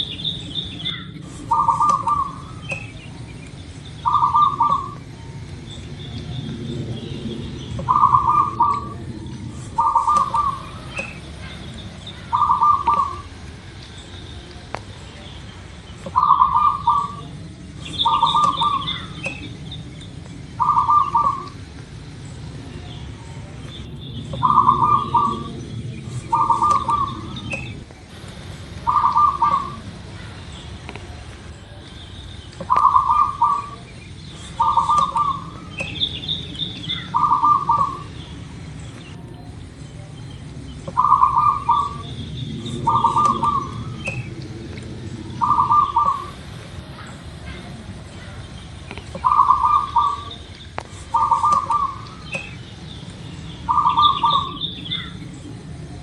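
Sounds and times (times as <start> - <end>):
dove cooing: 0.0 - 14.6, 15.6 - 31.8, 32.6 - 39.8, 40.8 - 52.6, 53.6 - 55.7.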